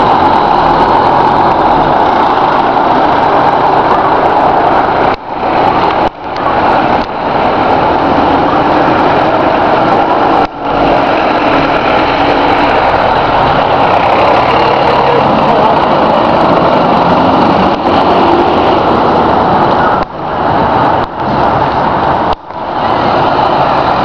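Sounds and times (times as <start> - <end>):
truck diesel engine pulling away: 0.0 - 19.6.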